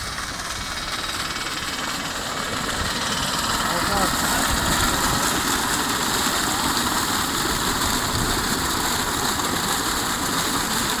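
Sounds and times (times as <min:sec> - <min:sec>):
water gushing from pipe: 0:00.0 - 0:11.0.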